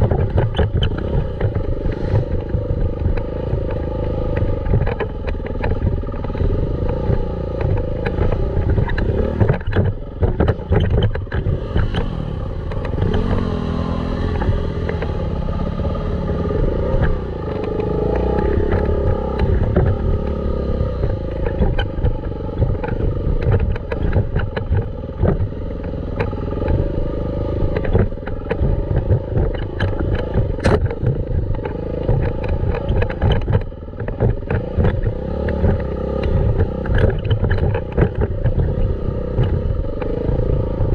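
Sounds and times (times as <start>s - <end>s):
dirt bike engine revving: 0.0s - 40.9s
knocks and rattles: 0.0s - 40.9s.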